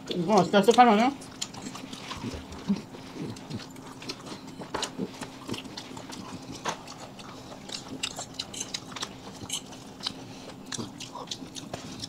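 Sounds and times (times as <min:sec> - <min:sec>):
faint steady hum: 0:00.0 - 0:12.0
people chewing and smacking: 0:00.0 - 0:12.0.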